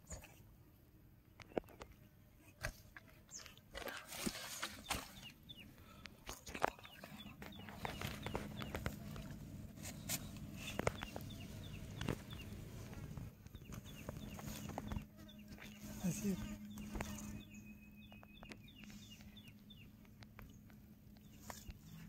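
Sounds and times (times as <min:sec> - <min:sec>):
low steady hum: 0:00.0 - 0:22.0
handling clicks and rustles in grass: 0:01.3 - 0:22.0.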